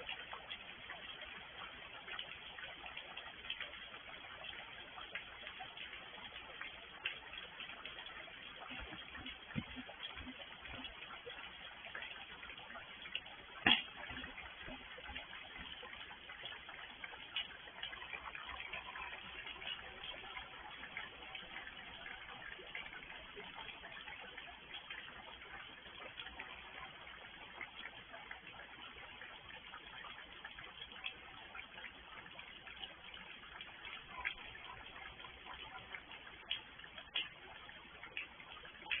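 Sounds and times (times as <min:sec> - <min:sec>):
raindrops ticking: 0:00.0 - 0:39.0
steady rain hiss: 0:00.0 - 0:39.0.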